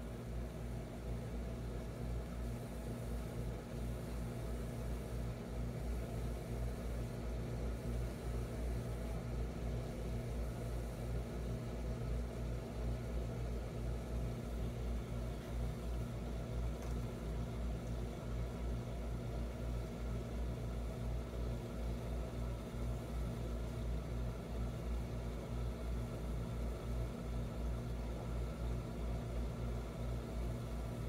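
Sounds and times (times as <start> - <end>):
aquarium pumps humming: 0.0 - 31.0.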